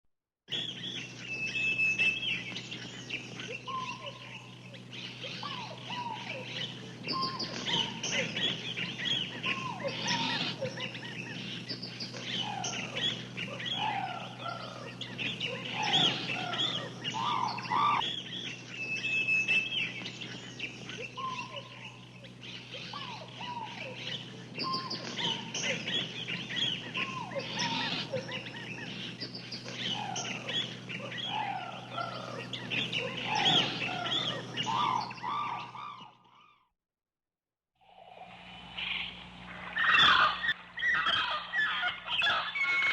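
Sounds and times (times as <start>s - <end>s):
steady low hum: 0.5s - 36.0s, 37.8s - 42.8s
birds chirping and singing: 0.5s - 36.6s, 38.5s - 42.9s.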